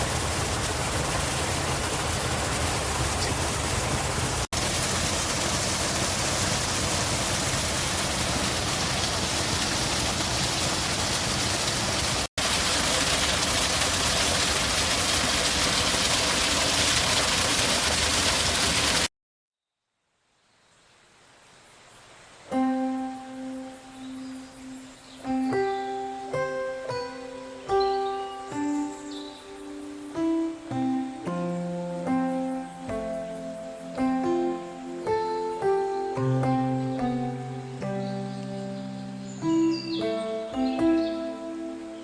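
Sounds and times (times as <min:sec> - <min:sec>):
rushing water: 0:00.0 - 0:19.1, 0:21.8 - 0:42.0.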